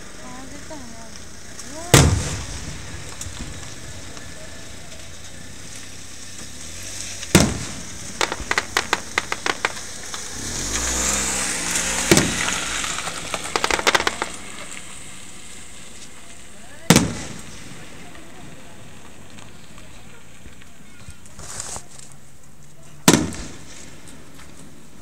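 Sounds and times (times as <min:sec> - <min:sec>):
firework bangs: 0:00.0 - 0:21.9, 0:22.9 - 0:25.0
firework crackling: 0:00.0 - 0:25.0.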